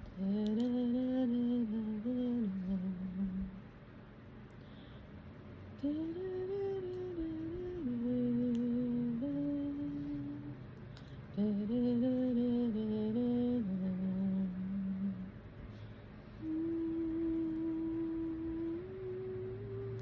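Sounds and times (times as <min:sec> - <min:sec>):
woman humming a slow tune: 0:00.0 - 0:03.6, 0:05.8 - 0:10.7, 0:11.4 - 0:15.4, 0:16.4 - 0:20.0.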